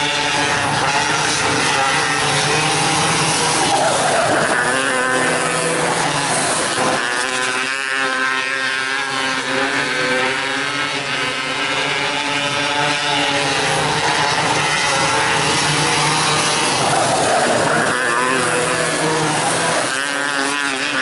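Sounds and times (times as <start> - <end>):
racing car engines at high revs: 0.0 - 21.0.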